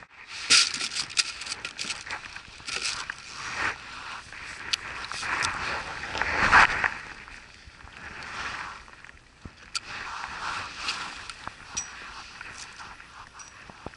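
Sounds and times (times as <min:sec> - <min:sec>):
fishing tackle rustling and clicks: 0:00.3 - 0:13.9.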